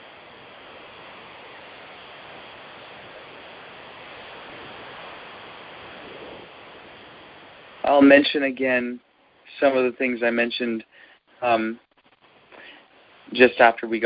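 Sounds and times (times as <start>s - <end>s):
recording hiss: 0.0s - 14.0s.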